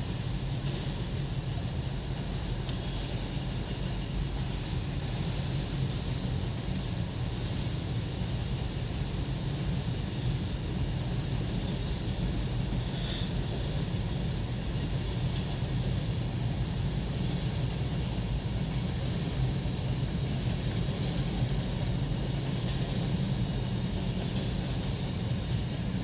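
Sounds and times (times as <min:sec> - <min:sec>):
freight train wheels on track: 0:00.0 - 0:26.0.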